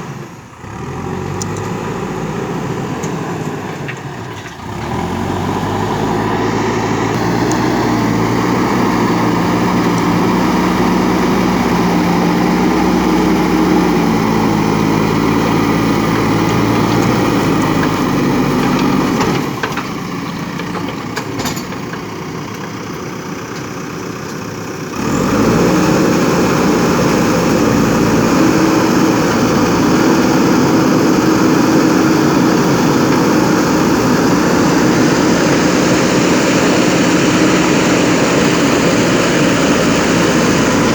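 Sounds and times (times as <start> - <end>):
backhoe diesel engine working: 0.0 - 40.9.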